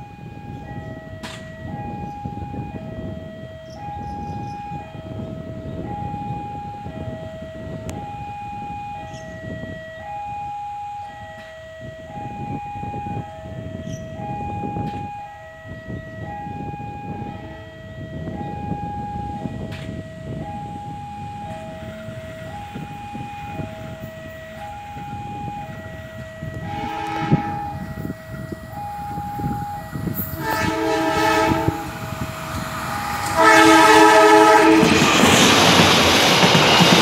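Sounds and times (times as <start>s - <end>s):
two-tone railway warning alarm: 0.0s - 37.0s.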